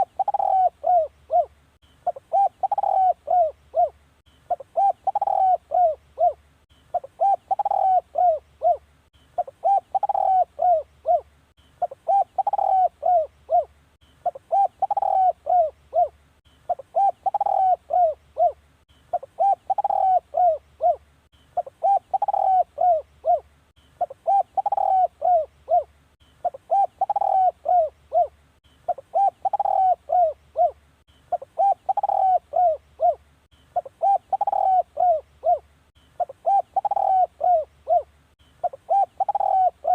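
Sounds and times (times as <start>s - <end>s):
dove cooing: 0.0s - 21.0s, 21.6s - 39.9s.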